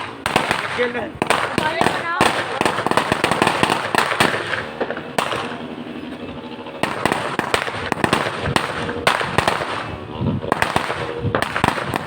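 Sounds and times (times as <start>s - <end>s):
fireworks banging and crackling: 0.0s - 6.2s, 6.8s - 12.0s.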